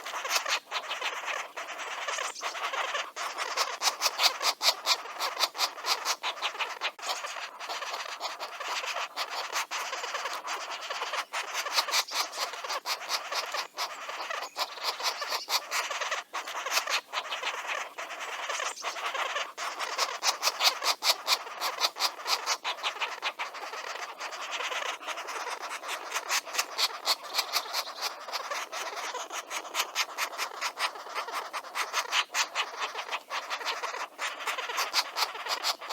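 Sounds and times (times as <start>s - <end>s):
birds chirping at a nest: 0.0s - 35.9s.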